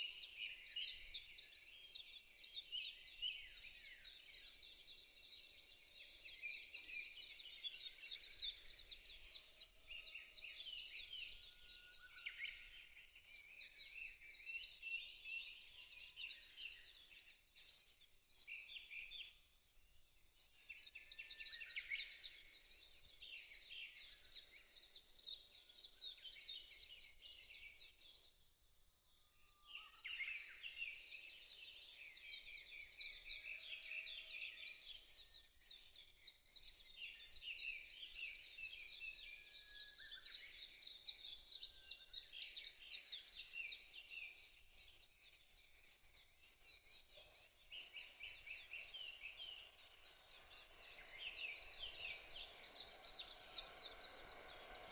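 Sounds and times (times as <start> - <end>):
small birds chirping and trilling: 0.0 - 54.9.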